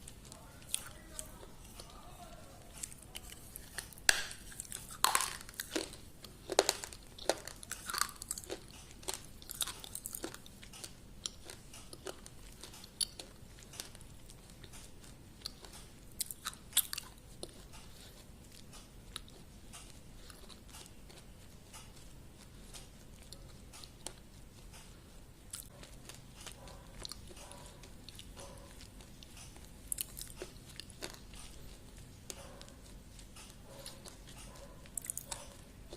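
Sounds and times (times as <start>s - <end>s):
person chewing crunchy food: 0.0s - 35.9s.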